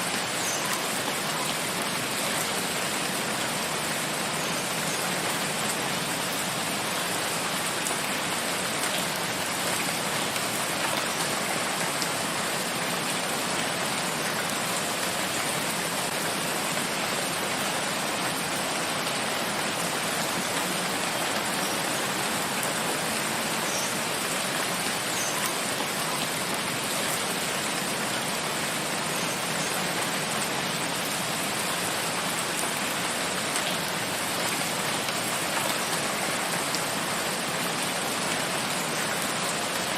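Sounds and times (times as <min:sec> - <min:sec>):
rain in forest: 0:00.0 - 0:39.9.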